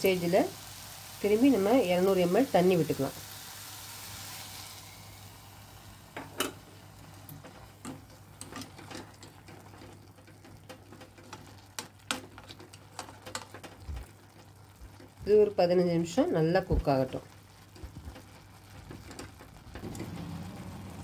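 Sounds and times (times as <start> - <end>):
faint sizzle: 0.0 - 21.0.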